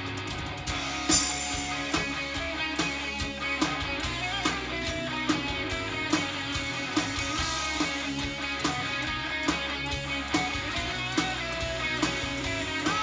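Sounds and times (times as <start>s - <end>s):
bass: 0.0s - 13.0s
drum beat: 0.0s - 13.0s
electric guitars: 0.0s - 13.0s.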